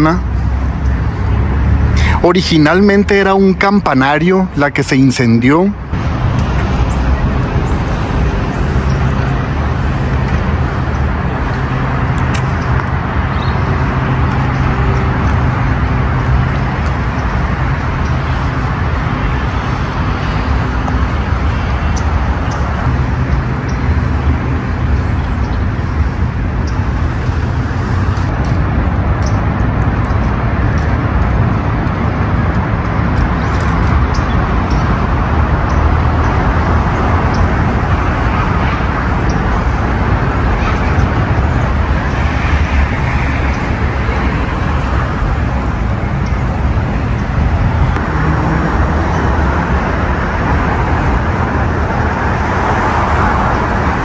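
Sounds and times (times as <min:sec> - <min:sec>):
low engine hum: 0:00.0 - 0:04.1, 0:05.7 - 0:54.0
road traffic noise: 0:00.0 - 0:54.0.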